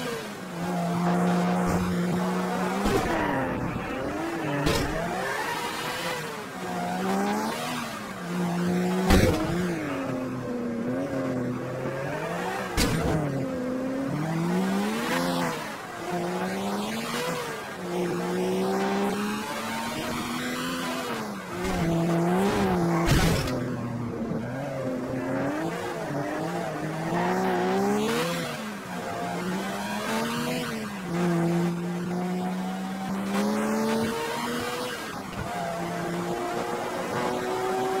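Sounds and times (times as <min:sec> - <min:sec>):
video game race car engine: 0:00.0 - 0:38.0.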